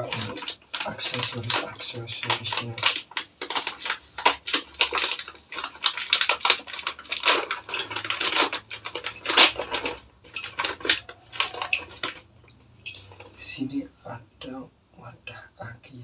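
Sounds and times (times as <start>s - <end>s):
small parts clattering: 0.0s - 13.4s
plastic packaging crinkling: 0.0s - 13.5s.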